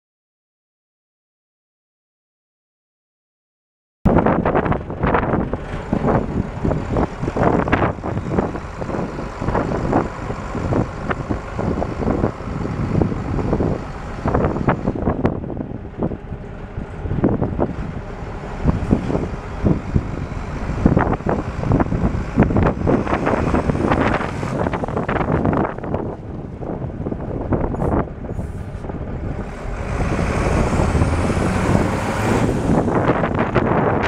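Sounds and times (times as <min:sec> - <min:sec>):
diesel truck engine running: 0:04.1 - 0:34.0.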